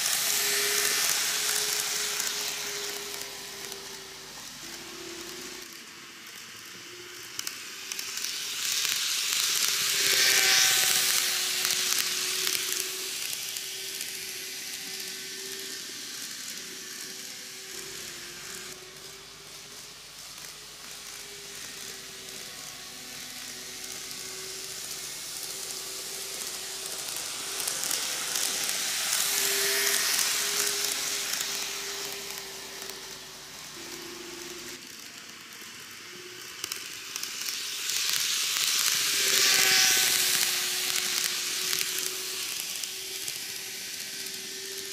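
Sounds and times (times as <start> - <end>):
model train motor whine: 0.0 - 44.9.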